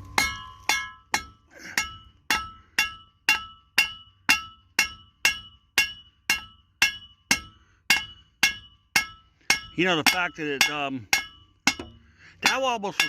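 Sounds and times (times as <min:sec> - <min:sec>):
hammer striking steel: 0:00.0 - 0:13.0.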